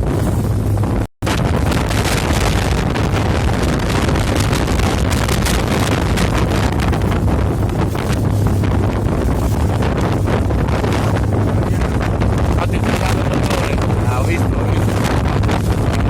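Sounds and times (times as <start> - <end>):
boat engine drone: 0.0 - 16.0
wind buffeting microphone: 0.0 - 16.0.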